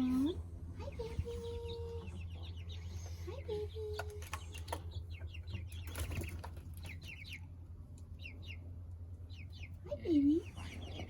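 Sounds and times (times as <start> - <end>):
chicks peeping: 0.0 - 11.0
steady low hum: 0.0 - 11.0.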